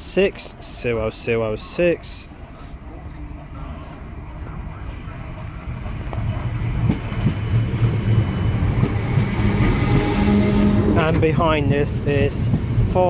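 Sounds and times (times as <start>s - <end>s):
electric train rumbling past: 0.8s - 13.0s.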